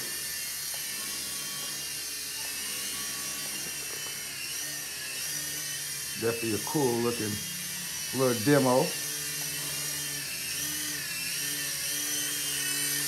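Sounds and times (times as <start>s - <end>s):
toy helicopter rotors whining: 0.0s - 13.0s.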